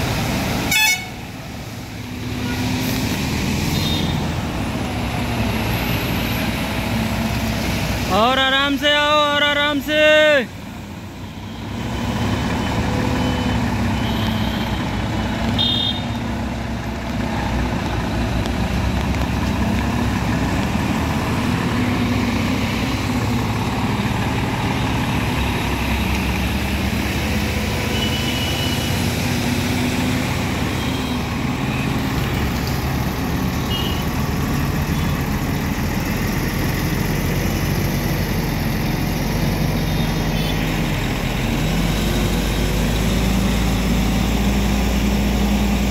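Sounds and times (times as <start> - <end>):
truck diesel engine under load: 0.0 - 45.9.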